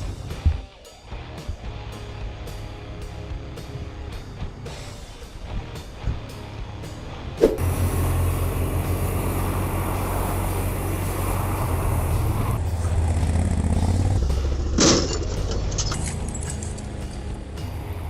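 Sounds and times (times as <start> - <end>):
road and wind noise: 0.0 - 18.0
vehicle engine drone: 1.2 - 18.0.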